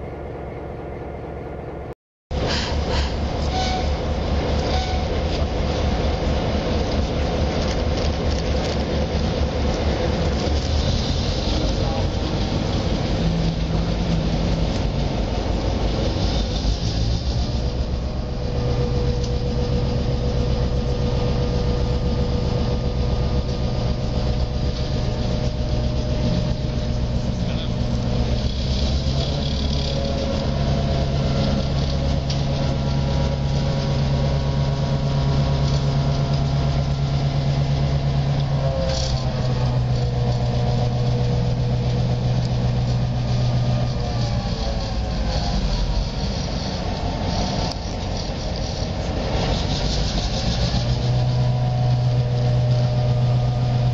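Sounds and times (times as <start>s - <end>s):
diesel locomotive engine throbbing: 0.0s - 53.9s.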